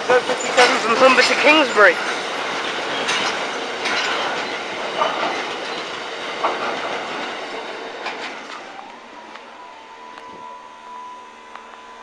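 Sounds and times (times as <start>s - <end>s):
train wheels clattering over rail joints: 0.0s - 10.7s
train wheel squeals: 0.0s - 12.0s.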